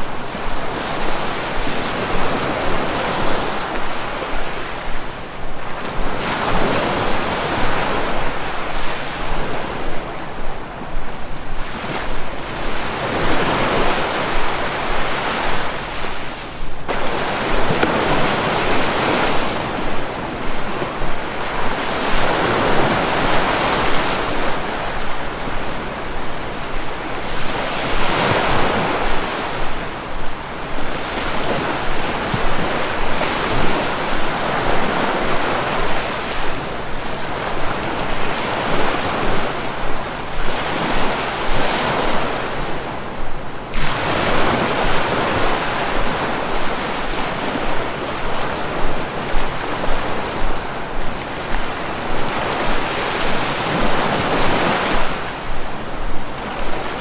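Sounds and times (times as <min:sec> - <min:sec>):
sea waves breaking on shore: 0:00.0 - 0:57.0
wind noise on microphone: 0:00.0 - 0:57.0.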